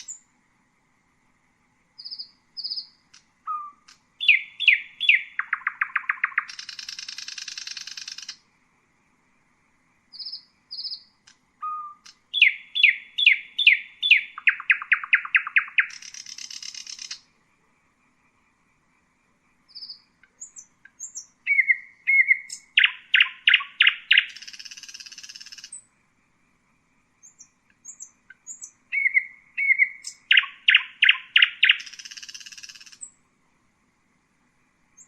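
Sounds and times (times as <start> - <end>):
nightingale singing: 0.0 - 0.4, 1.9 - 8.5, 10.0 - 26.4, 27.0 - 33.2, 34.6 - 35.0.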